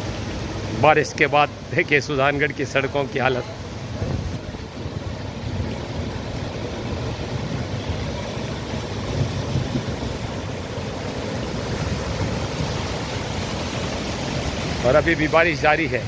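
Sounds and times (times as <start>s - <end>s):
rain and floodwater rushing: 0.0s - 16.0s.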